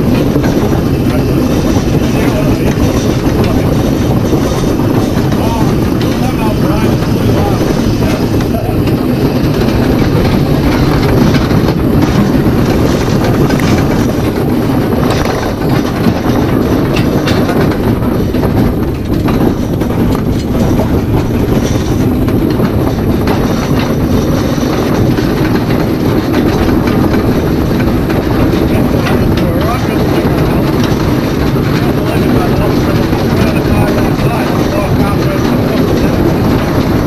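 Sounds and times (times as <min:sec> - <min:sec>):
steam roller rumble and clatter: 0:00.0 - 0:37.0.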